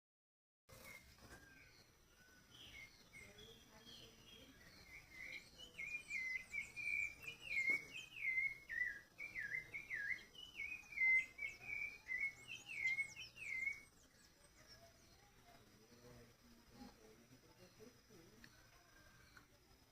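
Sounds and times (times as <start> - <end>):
songbird singing: 0.7 - 19.9.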